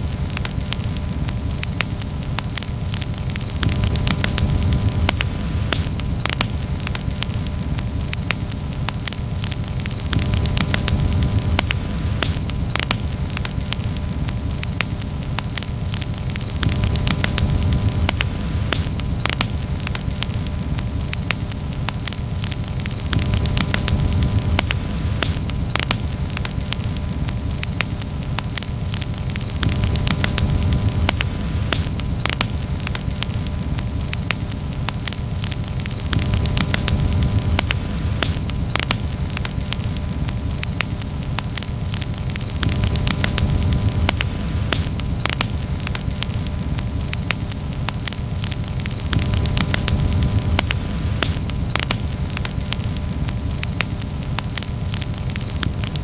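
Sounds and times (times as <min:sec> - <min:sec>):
campfire crackling and popping: 0:00.0 - 0:56.0
fire low rush: 0:00.0 - 0:56.0.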